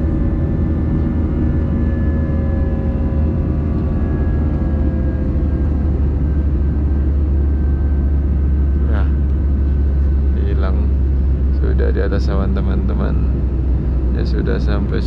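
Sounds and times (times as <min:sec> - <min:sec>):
faint whining tones: 0:00.0 - 0:15.0
jet engines rumbling: 0:00.0 - 0:15.0.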